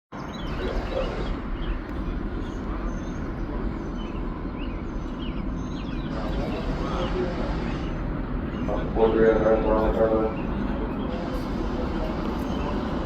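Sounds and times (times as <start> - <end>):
jet engines rumbling: 0.1 - 13.0.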